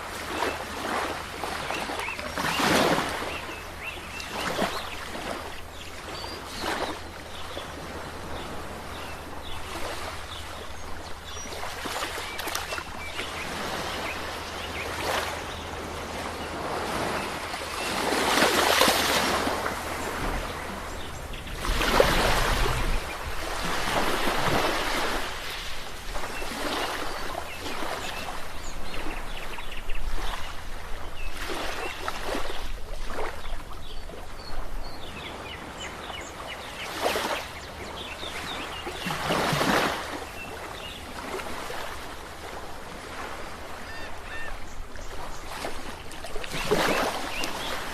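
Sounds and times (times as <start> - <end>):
ocean waves breaking on shore: 0.0 - 47.9.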